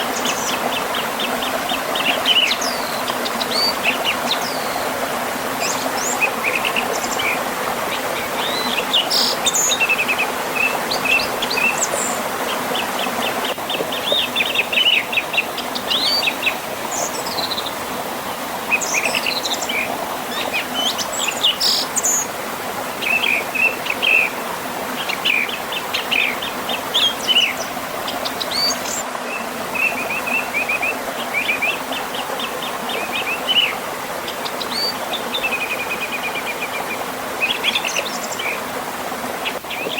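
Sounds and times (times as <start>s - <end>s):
birds chirping and trilling: 0.0s - 5.0s, 5.6s - 17.8s, 18.6s - 22.4s, 23.0s - 24.4s, 25.0s - 39.9s.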